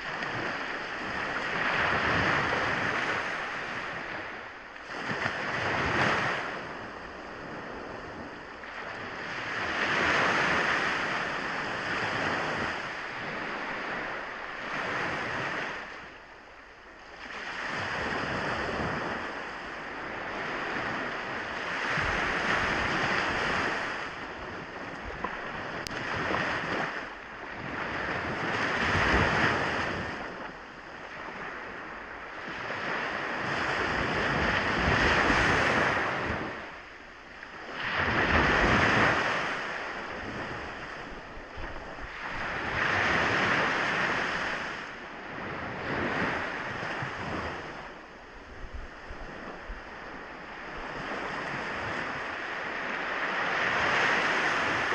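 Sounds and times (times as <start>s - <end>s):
sea waves breaking on beach: 0.0s - 54.9s.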